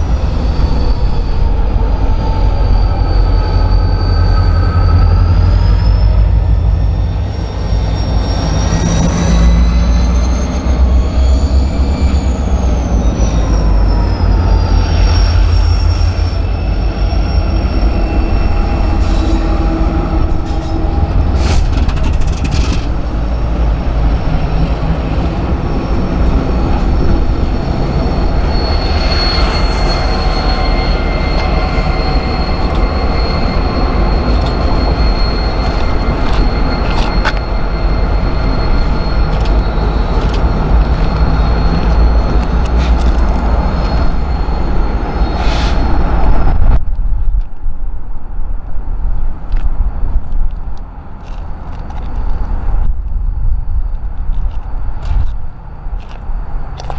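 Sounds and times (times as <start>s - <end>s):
high wheel squeal: 0.0s - 46.8s, 48.8s - 56.9s
freight train rumbling past: 0.0s - 56.9s.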